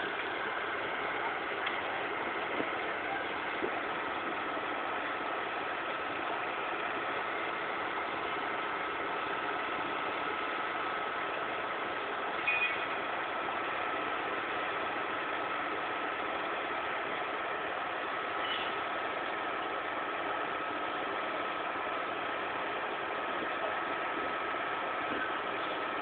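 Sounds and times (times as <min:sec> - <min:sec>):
diesel engine idling with whine: 0:00.0 - 0:26.0.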